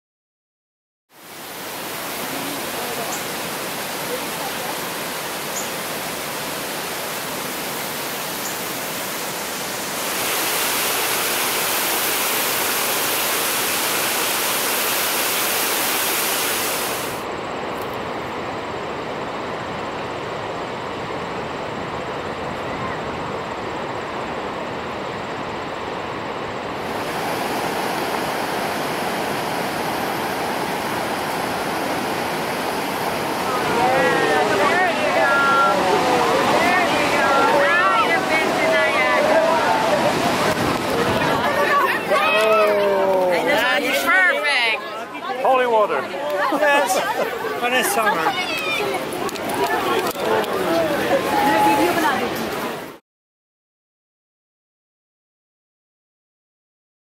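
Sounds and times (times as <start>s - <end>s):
rushing water: 1.1s - 53.0s.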